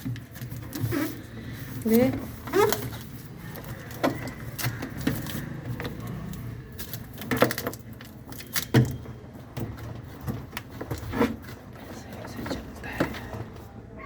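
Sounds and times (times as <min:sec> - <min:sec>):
objects knocking and clattering: 0:00.0 - 0:13.6.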